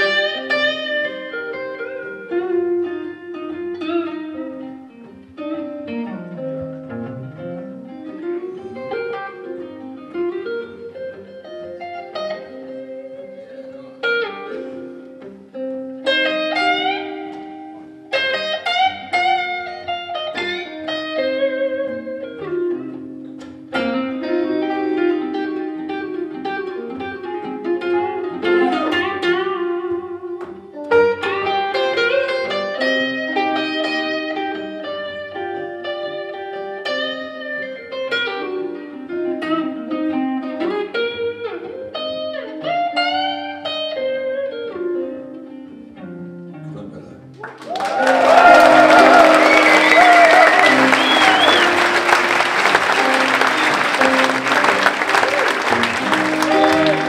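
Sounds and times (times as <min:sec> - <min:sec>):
acoustic guitars playing blues: 0:00.0 - 0:47.6, 0:48.2 - 0:57.0.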